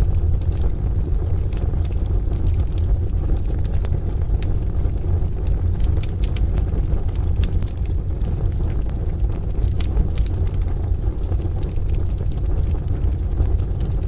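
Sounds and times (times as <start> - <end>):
rain: 0.0 - 14.0
wood fire crackling and popping: 0.0 - 14.0.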